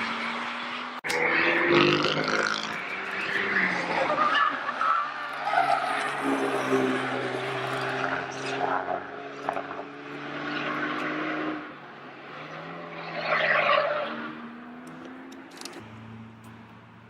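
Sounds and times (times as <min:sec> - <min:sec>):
turbocharged car engine revving: 0:00.0 - 0:17.0.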